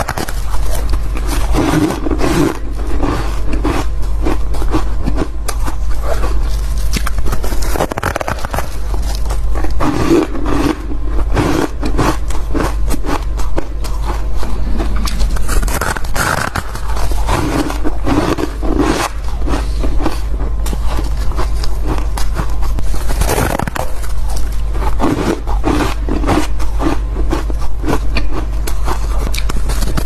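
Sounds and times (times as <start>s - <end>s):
chewing crunchy ice: 0.0s - 30.0s
steady low hum: 0.0s - 30.0s.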